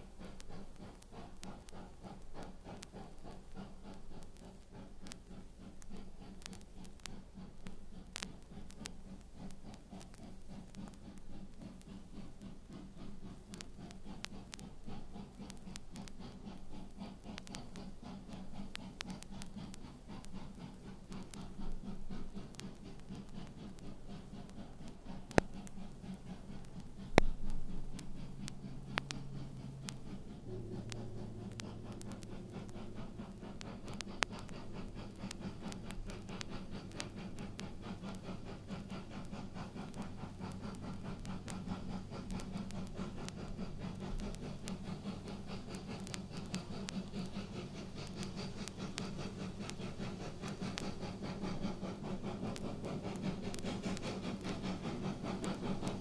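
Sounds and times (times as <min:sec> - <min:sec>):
vinyl crackle and pops: 0:00.0 - 0:56.0.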